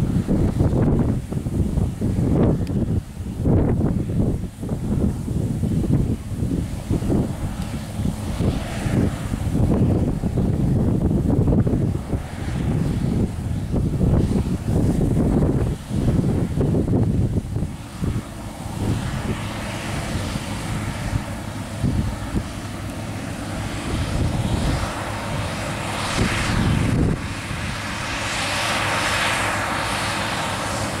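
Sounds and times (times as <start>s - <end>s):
combine harvester drone: 0.0s - 31.0s
wind buffeting microphone: 0.0s - 31.0s.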